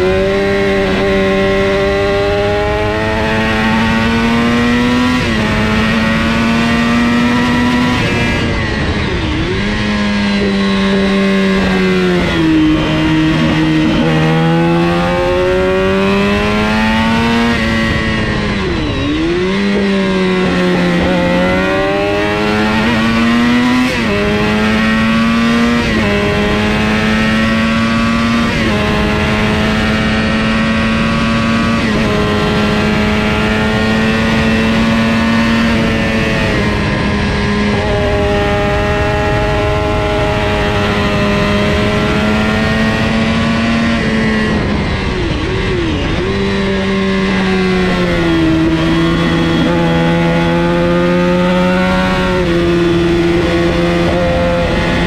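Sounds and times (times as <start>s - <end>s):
motorcycle engine revving high: 0.0s - 55.0s.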